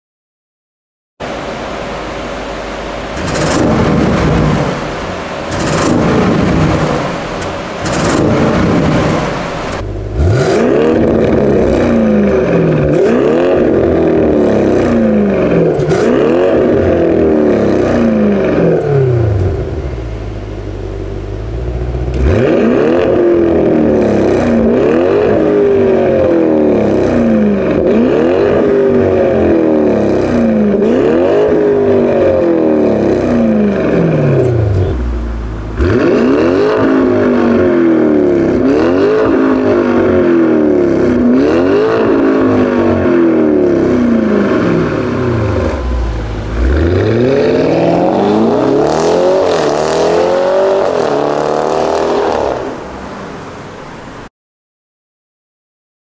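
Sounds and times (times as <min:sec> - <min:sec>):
car engine revving: 0:01.2 - 0:54.2.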